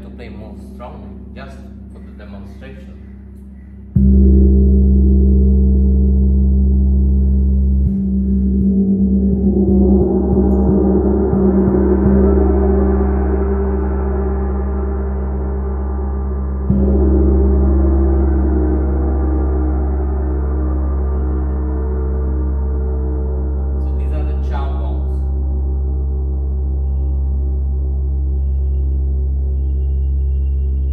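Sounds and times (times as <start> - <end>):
large gong ringing: 3.9 - 30.9.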